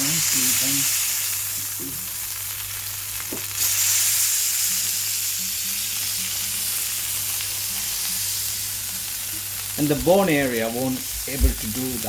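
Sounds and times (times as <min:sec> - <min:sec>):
steak sizzling on a griddle pan: 0:00.0 - 0:12.0.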